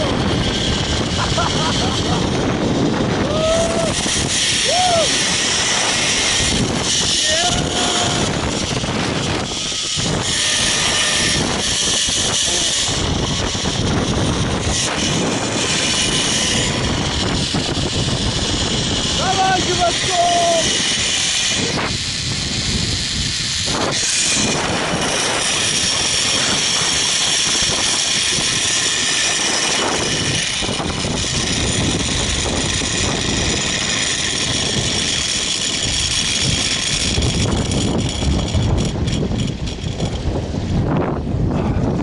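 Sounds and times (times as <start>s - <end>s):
zip-line pulleys whirring: 0.0s - 41.3s
wind rushing past microphone: 0.0s - 42.0s.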